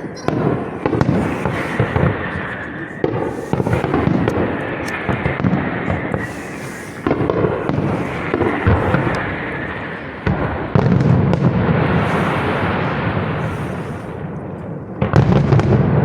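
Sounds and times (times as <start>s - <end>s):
fireworks bursts and crackling: 0.0s - 16.0s
heavy fireworks bangs: 0.0s - 16.0s.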